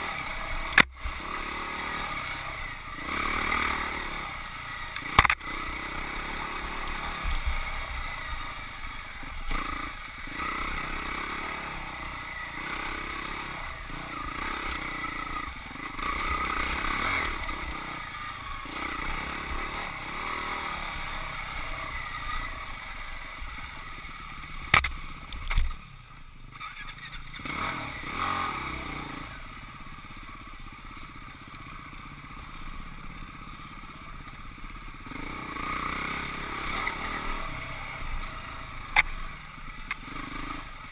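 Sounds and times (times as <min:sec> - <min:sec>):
dirt bike engine revving: 0:00.0 - 0:25.4, 0:26.5 - 0:40.9.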